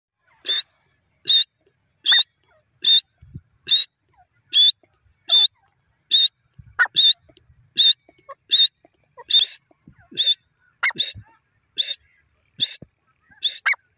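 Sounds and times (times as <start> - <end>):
bird calling: 0.2 - 13.9.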